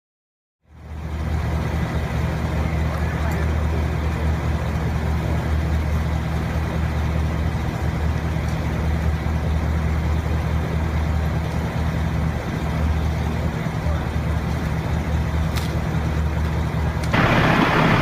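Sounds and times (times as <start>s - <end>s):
large vehicle engine droning: 0.6s - 18.0s
outdoor noise: 0.6s - 18.0s.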